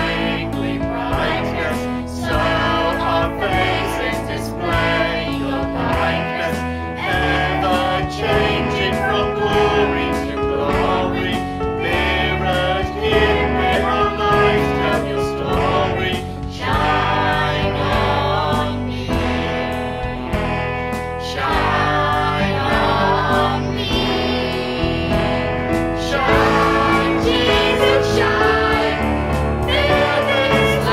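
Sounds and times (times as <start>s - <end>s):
instrumental accompaniment: 0.0s - 30.9s
voices singing worship song: 0.0s - 30.9s.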